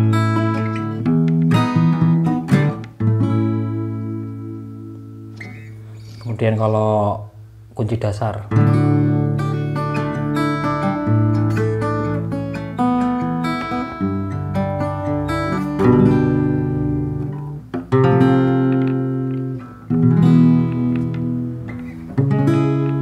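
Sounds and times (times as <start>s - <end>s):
acoustic guitar strumming chords: 0.0s - 7.6s, 8.5s - 23.0s.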